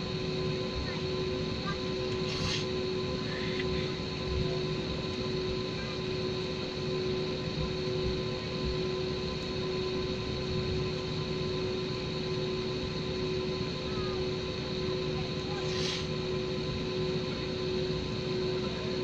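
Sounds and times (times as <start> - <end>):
airliner cabin engine roar: 0.0 - 19.0.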